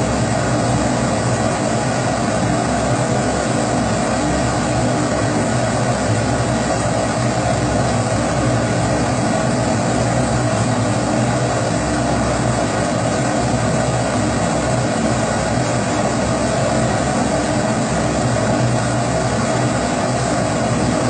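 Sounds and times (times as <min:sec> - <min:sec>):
pressure stove burner rushing: 0:00.0 - 0:21.0.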